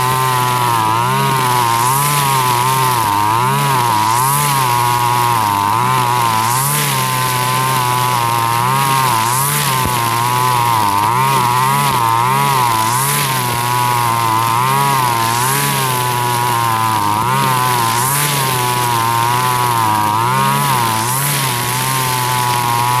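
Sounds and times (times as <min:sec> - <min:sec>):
brush cutter engine running: 0:00.0 - 0:23.0
trimmer line sweeping through grass: 0:00.0 - 0:23.0.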